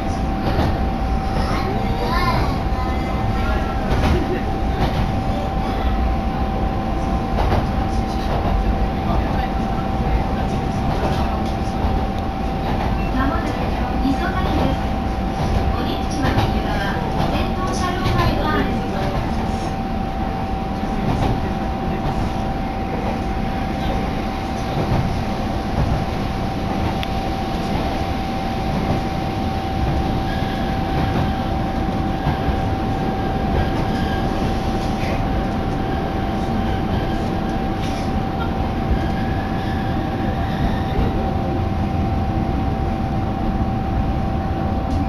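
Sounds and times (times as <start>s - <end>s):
railcar engine and wheels running: 0.0s - 45.0s.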